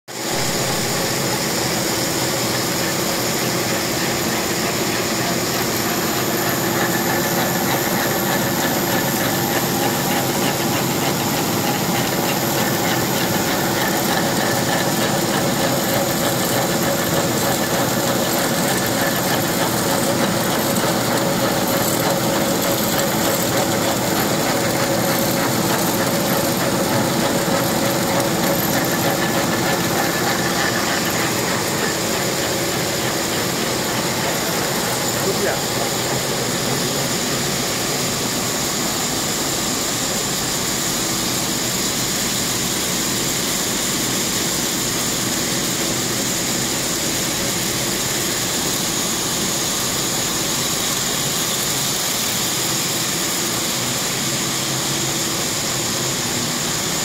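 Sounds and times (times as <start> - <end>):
spinning machinery whirring: 0.2 - 57.0.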